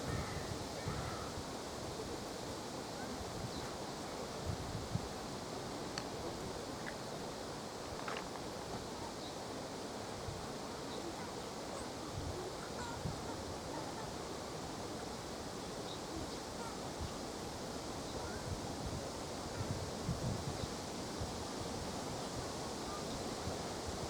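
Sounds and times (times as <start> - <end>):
wind buffeting microphone: 0.0 - 9.2, 10.0 - 24.0
wind blowing: 0.0 - 24.0.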